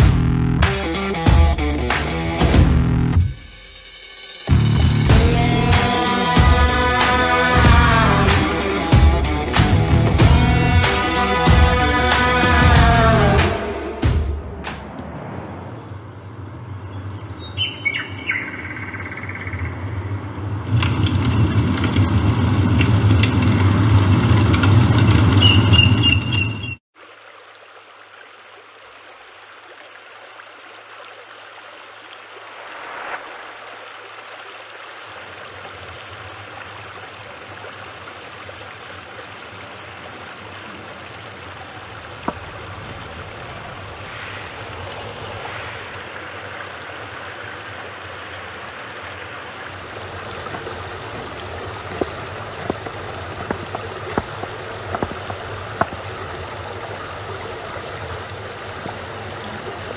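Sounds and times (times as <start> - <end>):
water rushing: 0.0 - 25.9, 26.9 - 59.9.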